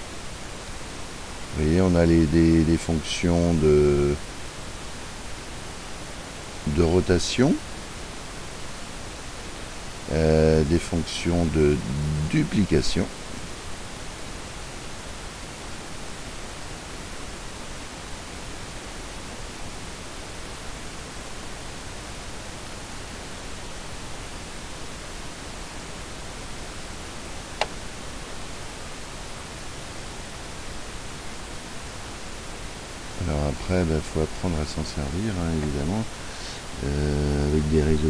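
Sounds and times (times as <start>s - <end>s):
recording hiss: 0.0s - 38.0s.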